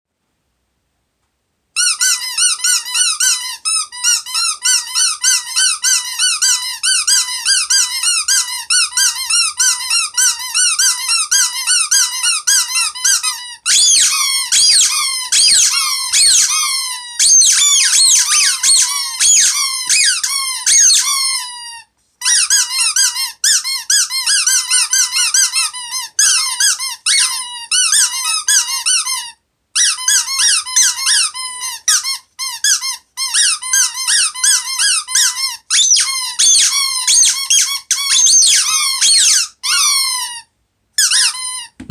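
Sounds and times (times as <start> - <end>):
high-pitched squeaky chirps: 1.8 - 41.9.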